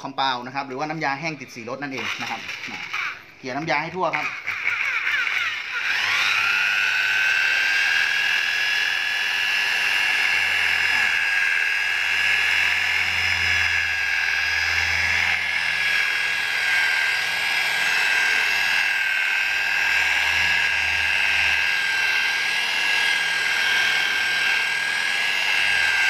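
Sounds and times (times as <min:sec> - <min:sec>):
rotary polisher motor whine: 0:01.6 - 0:26.0.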